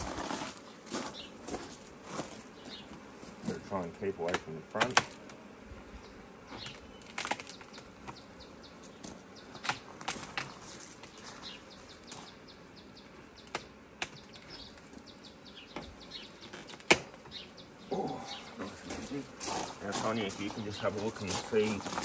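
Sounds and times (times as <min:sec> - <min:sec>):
beehive boxes clicking and knocking: 0:00.0 - 0:05.5, 0:06.5 - 0:12.4, 0:13.0 - 0:17.6, 0:18.3 - 0:22.0
faint hum of bees: 0:00.0 - 0:22.0.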